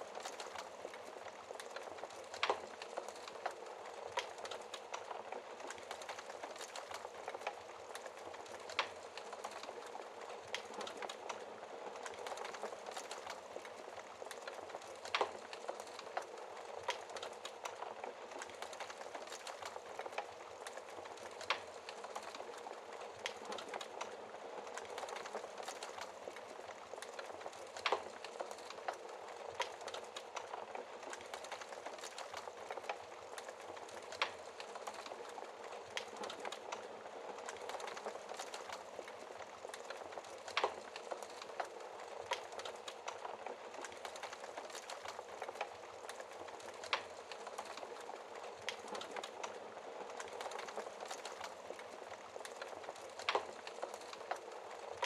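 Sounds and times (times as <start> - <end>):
fire crackling in fireplace: 0.0 - 55.0
sharp fire pops and snaps: 0.0 - 55.0.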